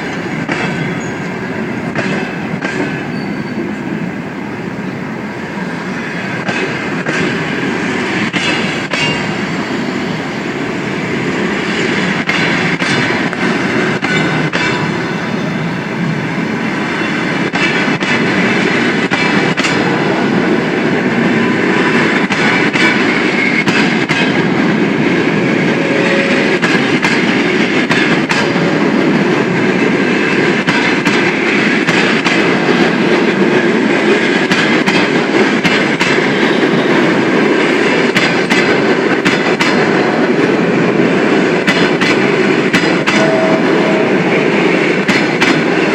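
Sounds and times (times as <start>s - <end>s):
train wheels clicking over rail joints: 0.0s - 3.7s, 5.9s - 9.8s, 10.5s - 15.1s, 16.5s - 45.9s.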